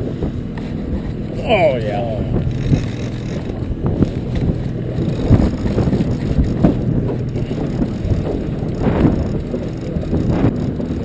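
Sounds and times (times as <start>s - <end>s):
boat engine hum: 0.0s - 11.0s
wind buffeting microphone: 0.0s - 11.0s.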